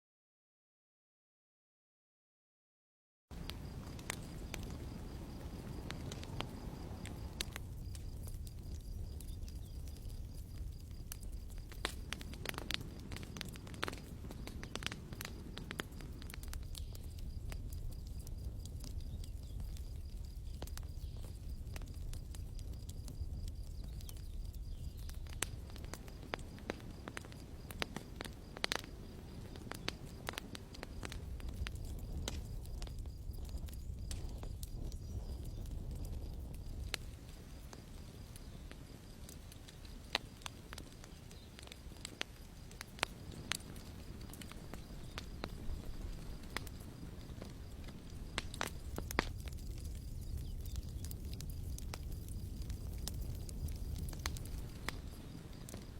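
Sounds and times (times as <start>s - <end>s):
campfire crackling: 3.3s - 55.9s.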